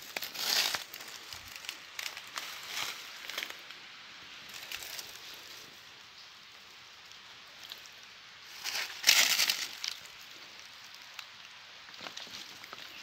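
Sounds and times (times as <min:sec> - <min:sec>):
leaves rustling and crunching: 0:00.0 - 0:06.0, 0:06.6 - 0:13.0.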